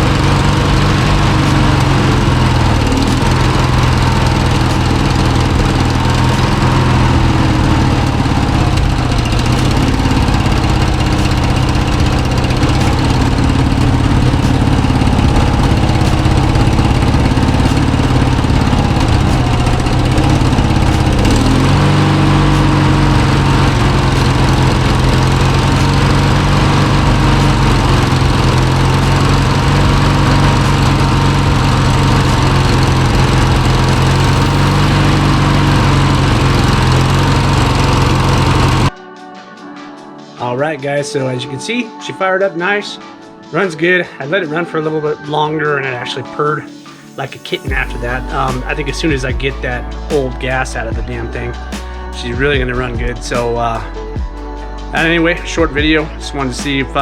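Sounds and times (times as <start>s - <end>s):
lawn mower engine running: 0.0s - 39.0s, 47.6s - 57.0s.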